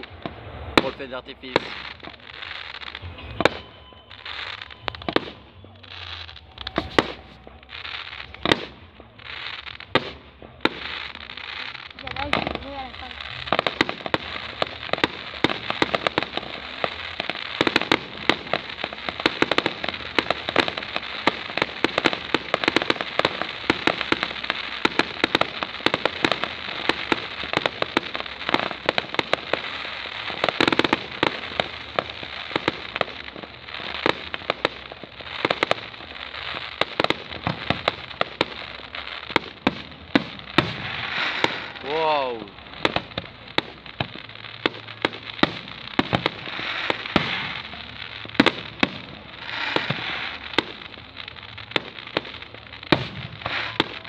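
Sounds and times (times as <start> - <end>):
fireworks popping and banging: 0.0 - 54.0.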